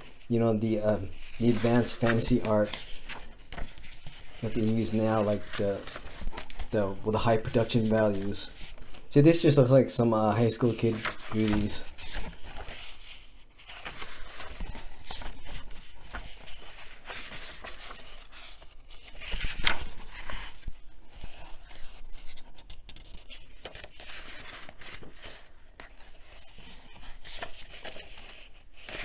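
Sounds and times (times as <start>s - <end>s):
paper pages rustling and flipping: 0.0s - 29.0s.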